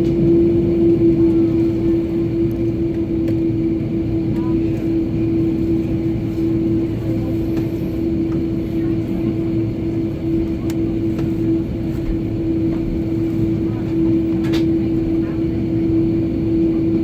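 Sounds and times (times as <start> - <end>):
jet engines droning in cabin: 0.0 - 17.0.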